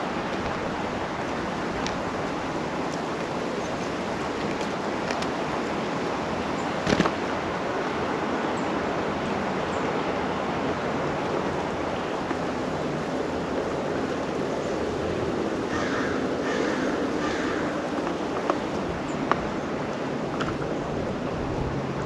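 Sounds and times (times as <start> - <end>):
steady outdoor rushing noise: 0.0 - 22.0.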